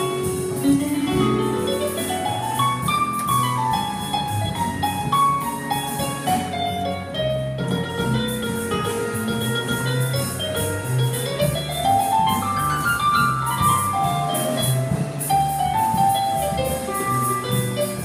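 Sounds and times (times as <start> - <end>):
drum kit: 0.0 - 18.0
keyboard: 0.0 - 18.0.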